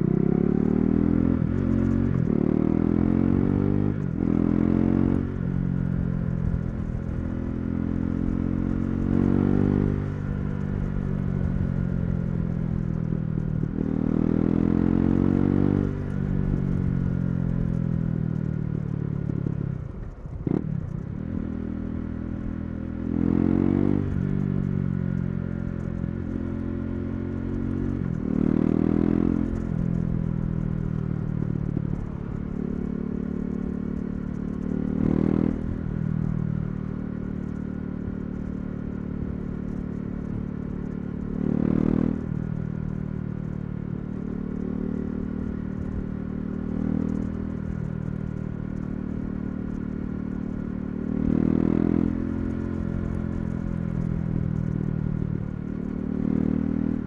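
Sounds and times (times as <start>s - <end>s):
motorcycle engine revving: 0.0s - 19.7s, 20.4s - 57.0s.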